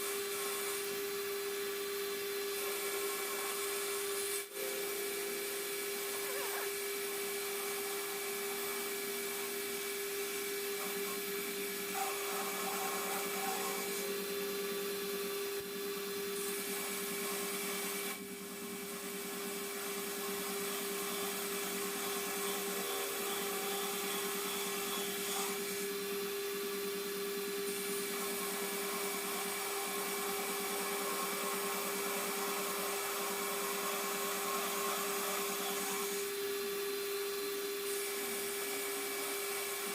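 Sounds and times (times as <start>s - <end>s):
metal lathe whining: 0.0s - 39.9s.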